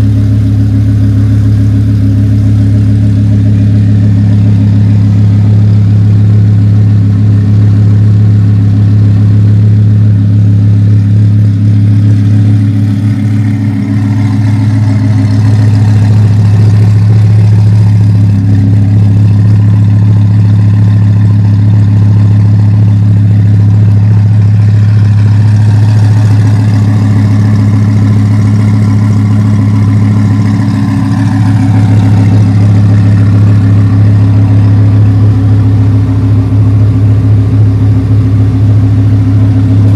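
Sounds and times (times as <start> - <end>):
car engine idling loudly: 0.0 - 39.9.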